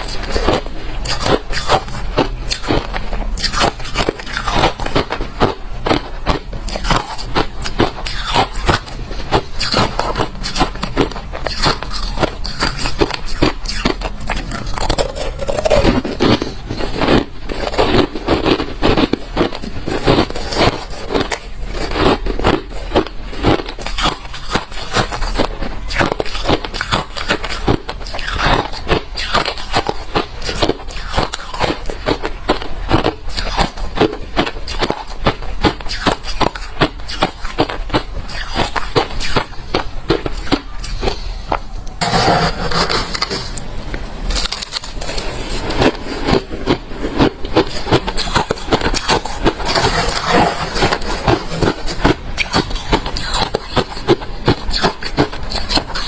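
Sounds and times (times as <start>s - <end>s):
chewing crunchy ice: 0.0s - 43.6s, 44.3s - 56.0s.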